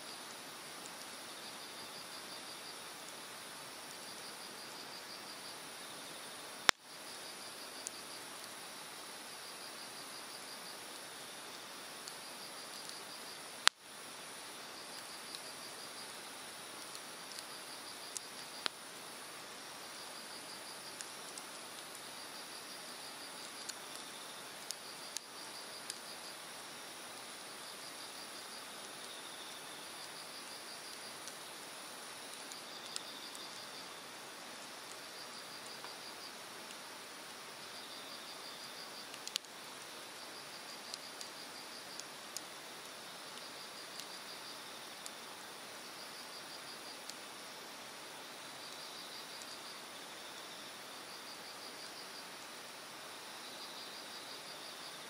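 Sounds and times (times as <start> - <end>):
insect chirping trills: 0.0 - 55.0
campfire crackling and popping: 0.1 - 50.0.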